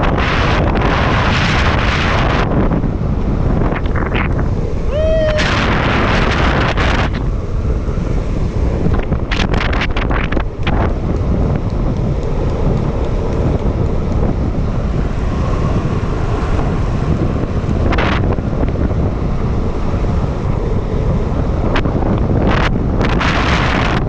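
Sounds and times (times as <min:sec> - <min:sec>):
skateboard wheels rumbling on asphalt: 0:00.0 - 0:24.0
wind buffeting microphone: 0:00.0 - 0:24.0.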